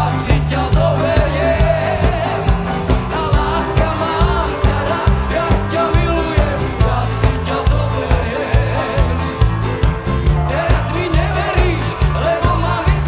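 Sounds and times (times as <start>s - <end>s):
live band playing upbeat song: 0.0s - 13.0s
man singing: 0.0s - 13.0s.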